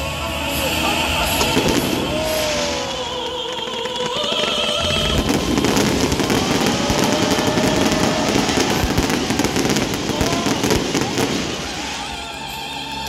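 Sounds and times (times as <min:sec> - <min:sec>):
fireworks popping and crackling: 0:01.3 - 0:13.0.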